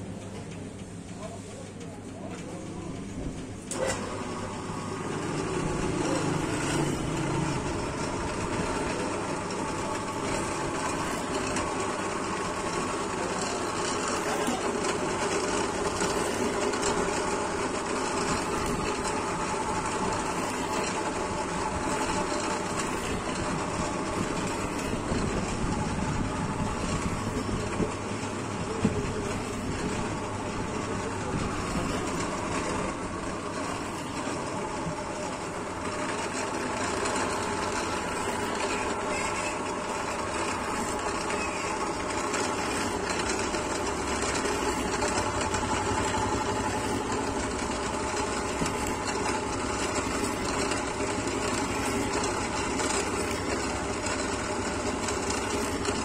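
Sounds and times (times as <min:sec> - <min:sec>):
electric motor humming: 0:03.8 - 0:56.0.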